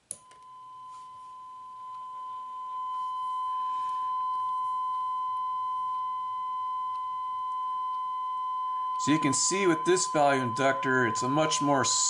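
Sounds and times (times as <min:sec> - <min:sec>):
sine test tone: 0:00.0 - 0:12.0.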